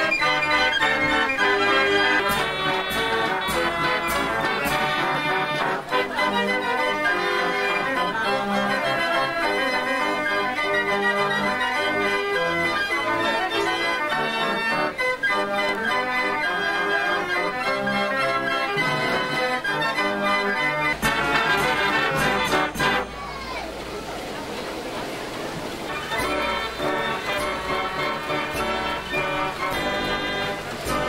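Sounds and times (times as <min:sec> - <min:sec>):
fairground organ playing: 0:00.0 - 0:24.6, 0:25.2 - 0:31.0.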